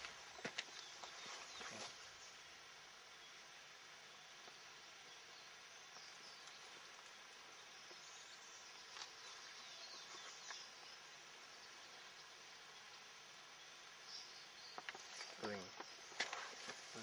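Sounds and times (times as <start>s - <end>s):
faint birds: 0.0s - 17.0s
faint insects: 0.0s - 17.0s
faint outdoor hiss: 0.0s - 17.0s.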